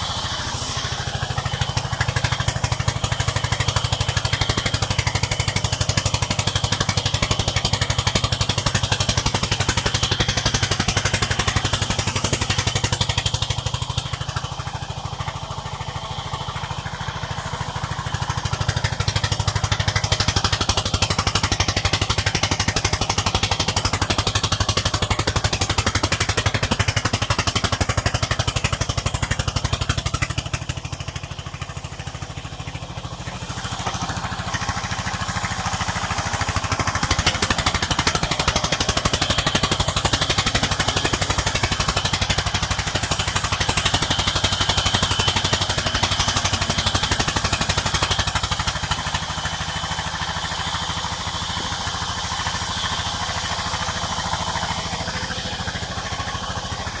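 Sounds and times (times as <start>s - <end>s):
sawmill engine pulsing: 0.0s - 57.0s.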